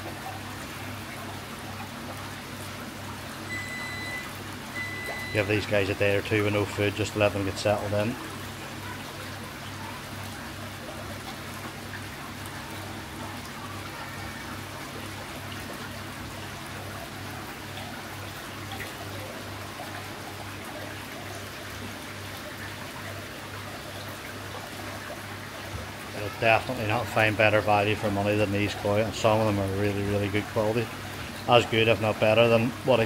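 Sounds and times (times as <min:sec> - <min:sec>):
water trickling: 0:00.0 - 0:33.0.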